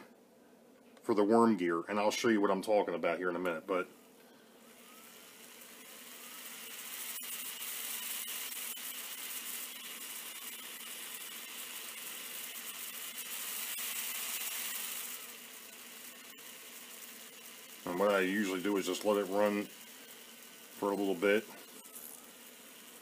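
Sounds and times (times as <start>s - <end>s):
model locomotive motor whirring: 4.5s - 23.0s.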